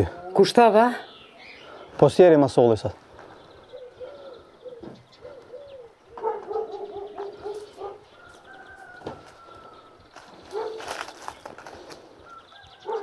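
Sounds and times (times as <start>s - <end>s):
birds cooing: 0.0s - 13.0s.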